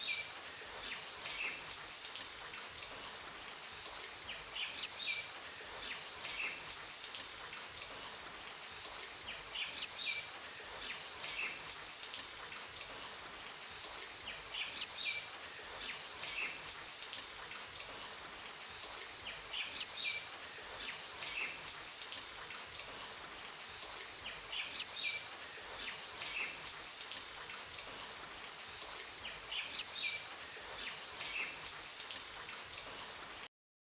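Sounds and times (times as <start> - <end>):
rain hiss: 0.0 - 33.5
small birds chirping: 0.0 - 33.5.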